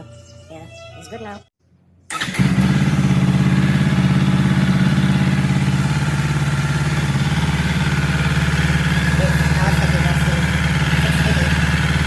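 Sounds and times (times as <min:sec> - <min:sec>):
motorcycle engine idling: 0:02.1 - 0:12.0.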